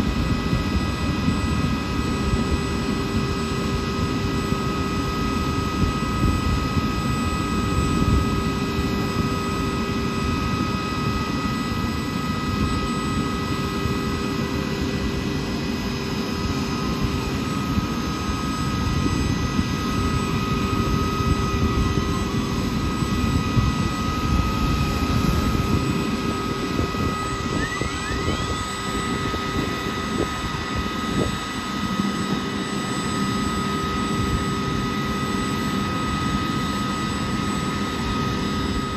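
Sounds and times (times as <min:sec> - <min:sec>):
faint rising whine: 0:00.0 - 0:38.9
gas turbine whining: 0:00.0 - 0:38.9.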